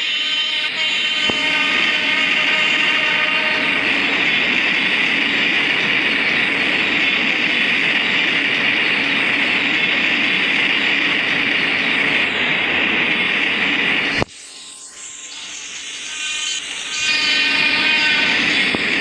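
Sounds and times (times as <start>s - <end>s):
train wheels on track: 0.0s - 19.0s.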